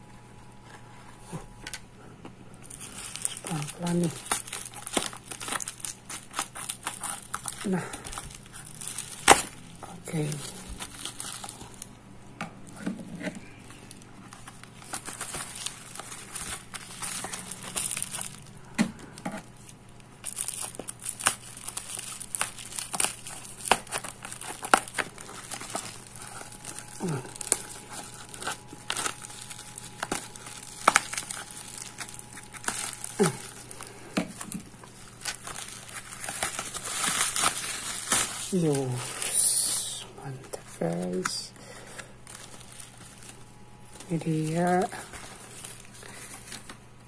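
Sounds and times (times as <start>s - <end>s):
plastic packaging crinkling: 2.6s - 47.0s.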